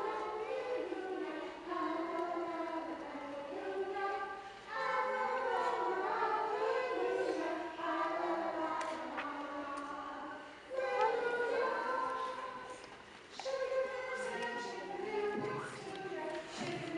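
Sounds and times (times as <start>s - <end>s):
children singing in unison: 0.0s - 16.9s.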